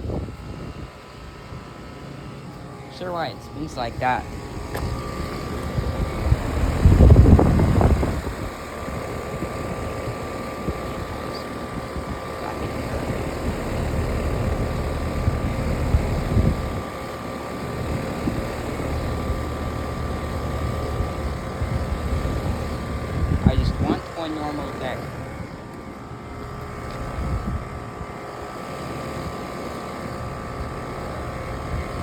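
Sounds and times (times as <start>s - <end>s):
electric hum: 0.0s - 32.0s
fans whirring: 0.0s - 32.0s.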